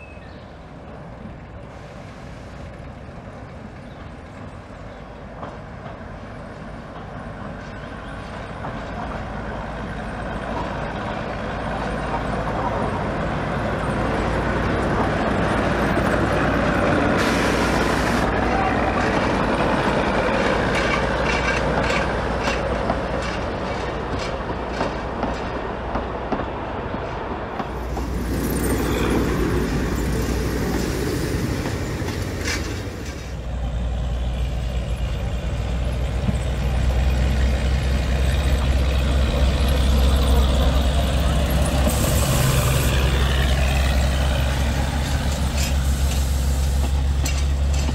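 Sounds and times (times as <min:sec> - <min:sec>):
diesel locomotive engines running: 0:00.0 - 0:47.9
train wheels clicking over rail joints: 0:02.6 - 0:13.5, 0:19.0 - 0:47.9.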